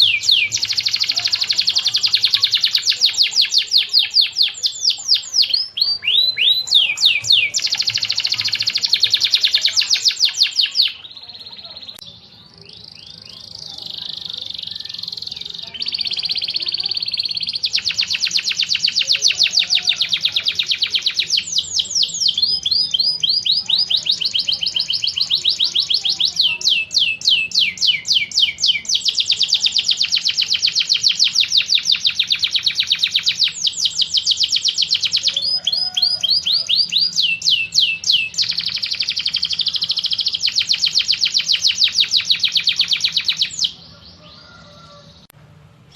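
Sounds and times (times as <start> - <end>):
birdsong trilling: 0.0 - 45.9.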